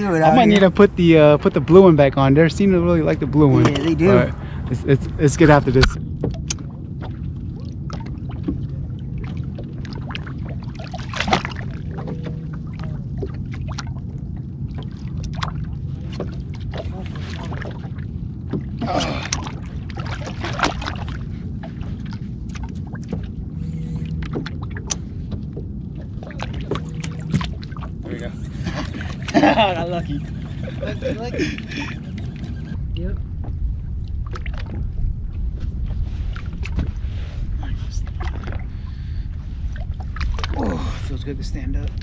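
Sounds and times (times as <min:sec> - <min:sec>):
water lapping against hull: 0:00.0 - 0:42.0.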